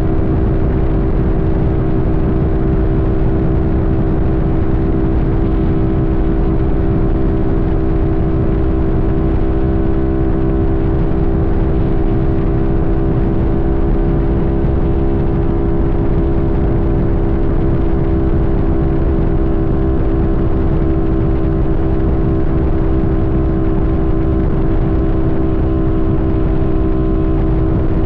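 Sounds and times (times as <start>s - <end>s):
low rushing noise: 0.0s - 28.0s
motorcycle engine cruising: 0.0s - 28.0s.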